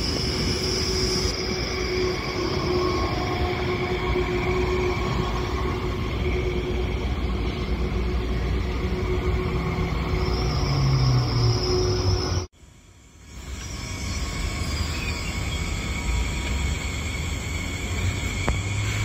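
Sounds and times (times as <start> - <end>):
electric train whine: 0.0 - 19.0
train wheels rumbling on rail: 0.0 - 19.0.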